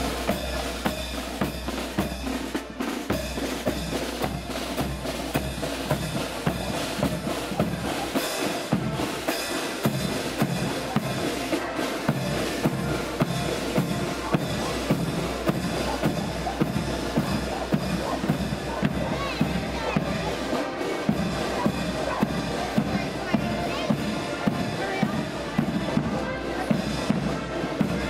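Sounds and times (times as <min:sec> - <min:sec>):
bass and snare drums: 0:00.0 - 0:28.0
marching band playing: 0:00.0 - 0:28.0.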